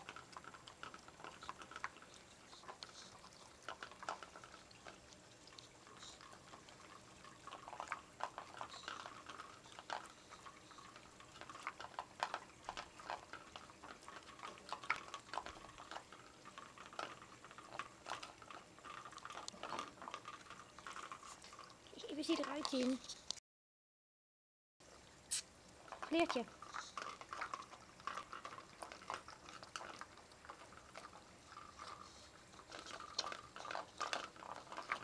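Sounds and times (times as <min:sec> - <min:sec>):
dogs licking plastic bowls: 0:00.0 - 0:23.4, 0:25.7 - 0:35.0.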